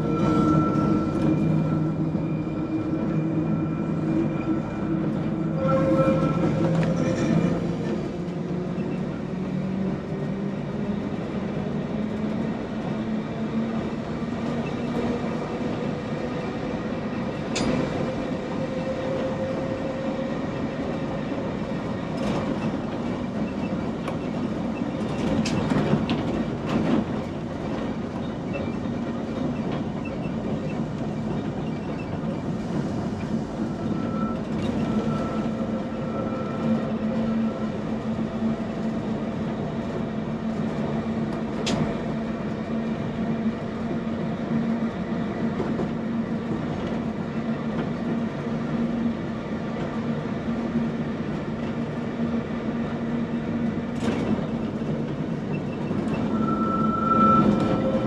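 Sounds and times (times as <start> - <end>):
tram rumbling: 0.0 - 58.0.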